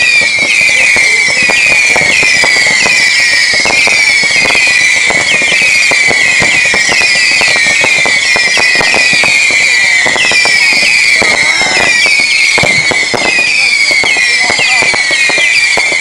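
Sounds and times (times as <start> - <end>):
crackle of small bangs: 0.0 - 16.0
whistling fireworks shrieking: 0.0 - 16.0.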